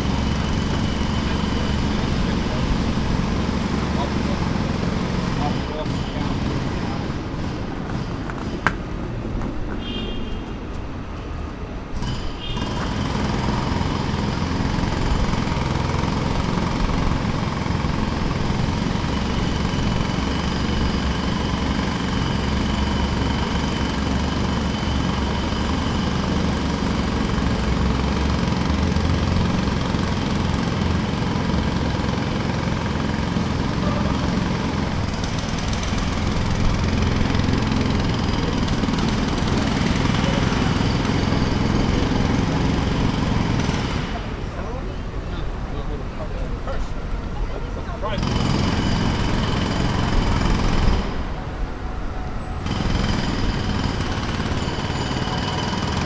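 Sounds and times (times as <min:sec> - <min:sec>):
engine drone: 0:00.0 - 0:09.0, 0:10.8 - 0:56.0
jackhammer rattling: 0:00.0 - 0:09.0, 0:11.9 - 0:45.3, 0:48.0 - 0:51.7, 0:52.6 - 0:56.0.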